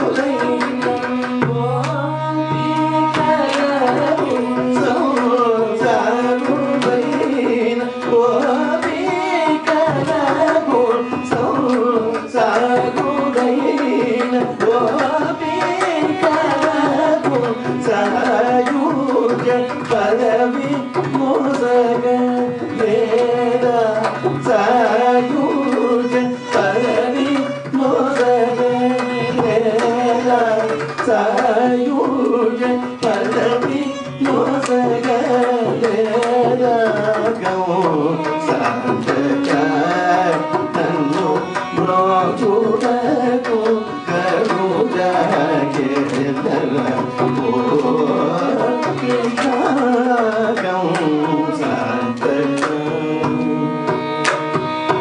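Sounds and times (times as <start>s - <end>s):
person singing: 0.0s - 55.0s
violin: 0.0s - 55.0s.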